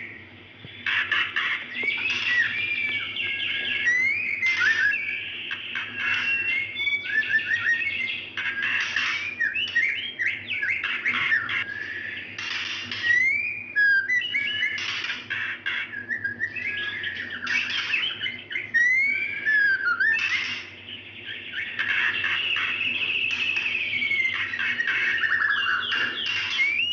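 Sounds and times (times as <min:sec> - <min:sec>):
bird whistled notes: 0:01.7 - 0:26.9.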